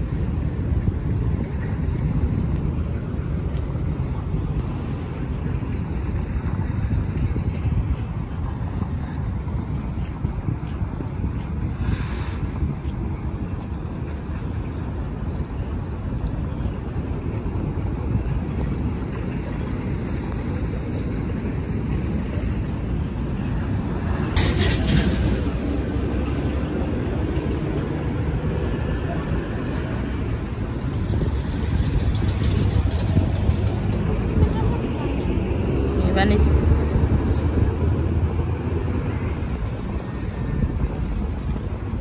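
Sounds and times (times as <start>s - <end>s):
highway traffic rumble: 0.0s - 42.0s.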